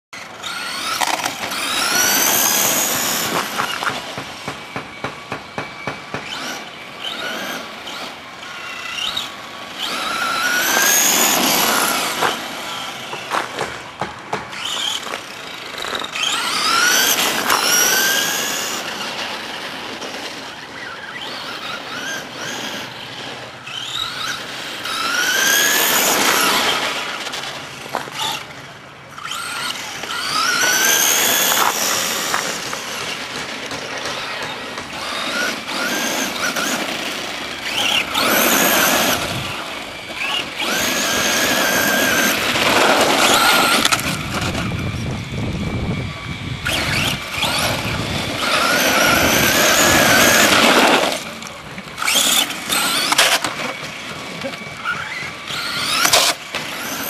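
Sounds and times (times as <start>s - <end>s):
electric motor whining: 0.2s - 57.0s.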